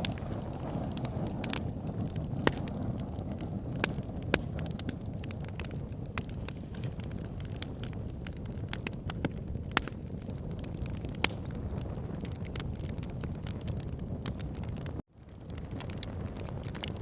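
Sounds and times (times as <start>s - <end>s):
logs popping: 0.0s - 17.0s
wood fire crackling: 0.0s - 17.0s.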